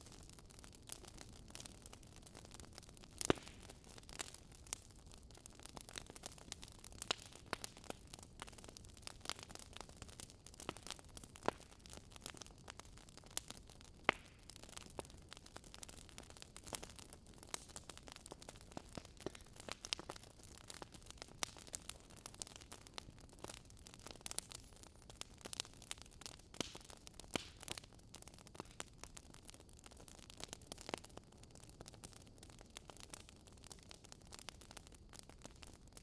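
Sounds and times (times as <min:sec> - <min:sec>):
faint steady hiss: 0:00.0 - 0:36.0
firewood crackling and popping: 0:00.0 - 0:36.0.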